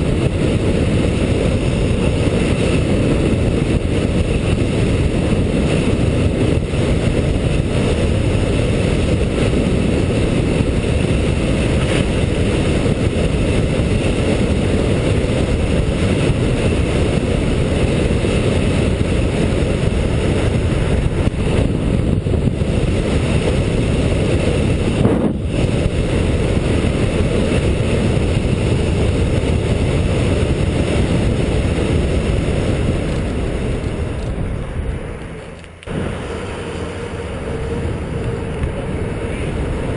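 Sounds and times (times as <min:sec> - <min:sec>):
road noise: 0:00.0 - 0:39.9
wind rushing on microphone: 0:00.0 - 0:39.9.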